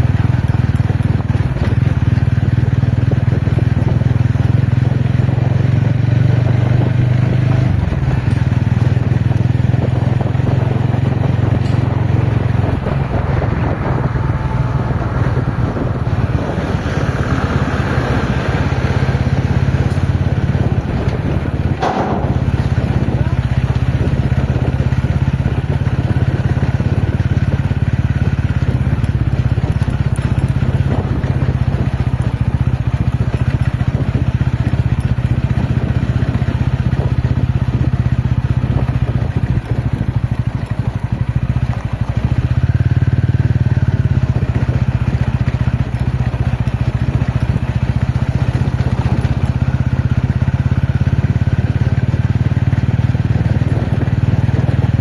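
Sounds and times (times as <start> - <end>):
crackle and clatter from ground: 0.0 - 55.0
motorcycle engine running: 0.0 - 55.0.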